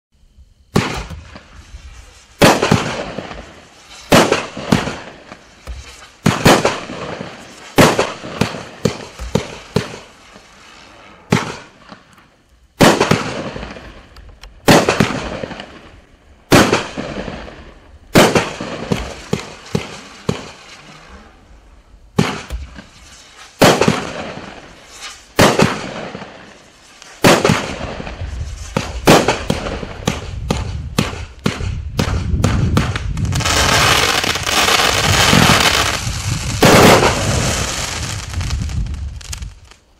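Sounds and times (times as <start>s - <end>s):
firework crackling: 0.4s - 39.9s
firework bangs: 0.6s - 39.9s.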